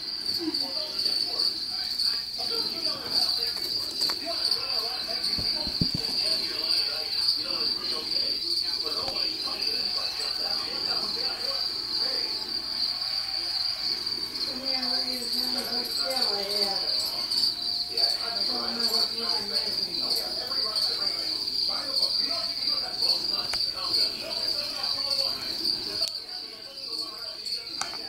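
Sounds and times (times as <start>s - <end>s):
high-pitched insect trill: 0.0s - 28.0s.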